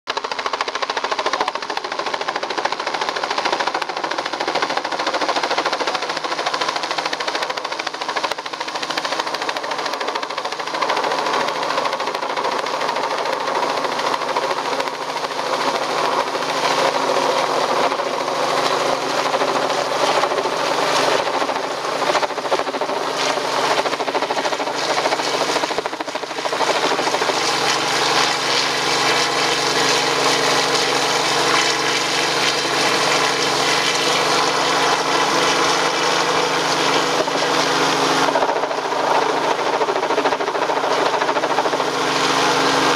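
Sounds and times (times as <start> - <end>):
helicopter hovering: 0.1 - 42.9.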